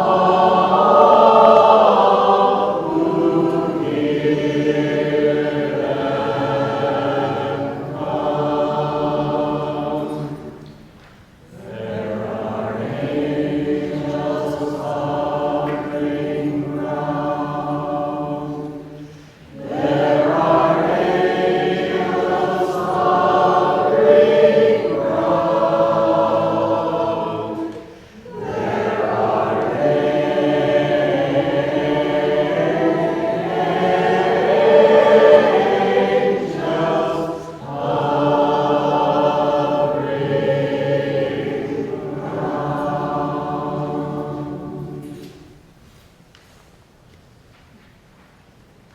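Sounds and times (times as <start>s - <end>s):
vocal group singing in harmony: 0.0s - 45.7s.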